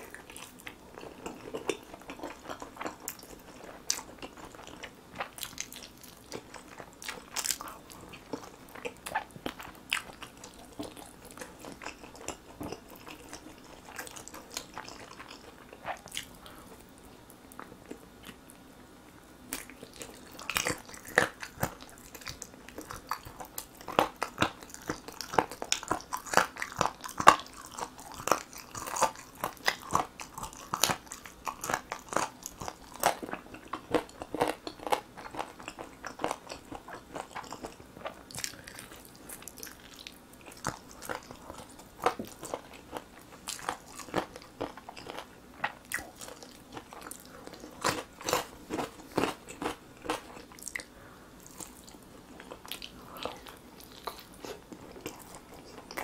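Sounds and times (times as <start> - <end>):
person chewing chicken: 0.0 - 18.4, 19.5 - 56.0.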